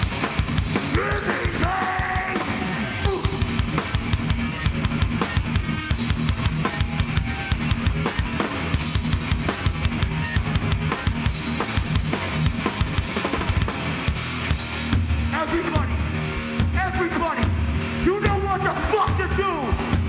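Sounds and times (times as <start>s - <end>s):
heavy band playing: 0.0s - 20.0s
rapid bass drum hits: 0.0s - 20.0s.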